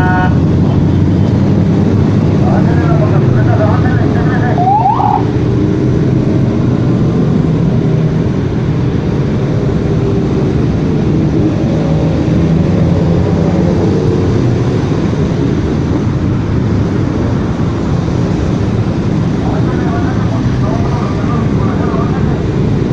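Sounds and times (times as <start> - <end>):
motorcycle engines rumbling: 0.0 - 22.9.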